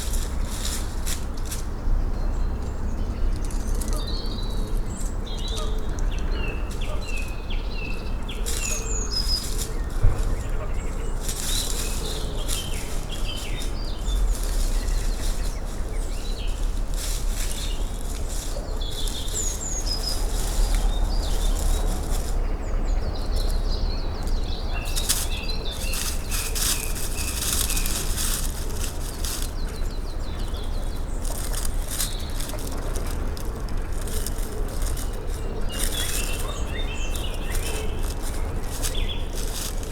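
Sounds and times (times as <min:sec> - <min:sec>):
birds chirping and trilling: 0:00.0 - 0:39.9
steady low rumble: 0:04.0 - 0:39.9.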